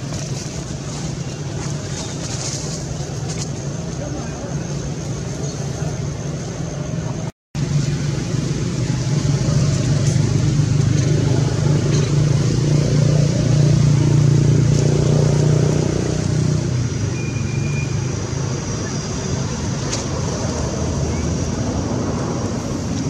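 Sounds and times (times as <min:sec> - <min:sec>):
motor vehicle engine hum: 0:00.0 - 0:23.0.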